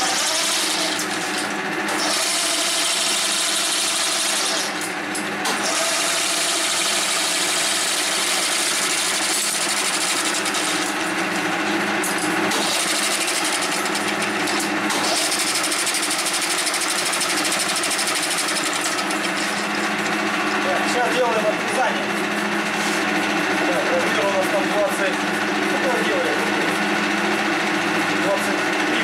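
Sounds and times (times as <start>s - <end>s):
lathe running with constant hum: 0.0s - 29.0s.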